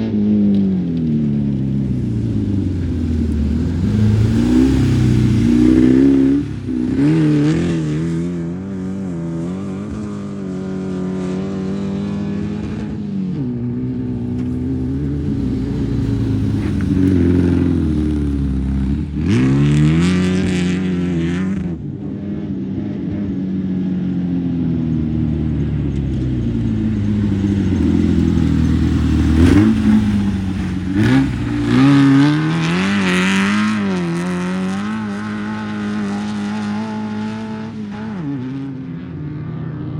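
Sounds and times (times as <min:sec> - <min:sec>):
race vehicle engines revving: 0:00.0 - 0:23.3, 0:24.6 - 0:39.9.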